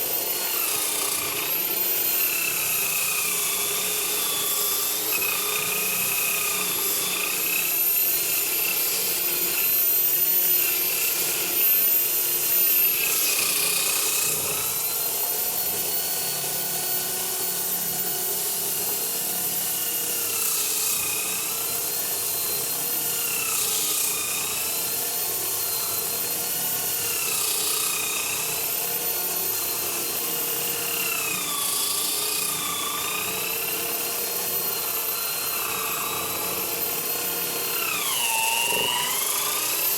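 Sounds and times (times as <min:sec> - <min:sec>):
drill motor whine: 0:00.0 - 0:39.9.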